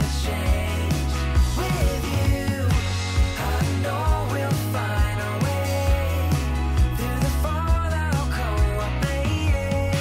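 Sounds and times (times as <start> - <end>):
pop-rock song with vocals: 0.0 - 10.0.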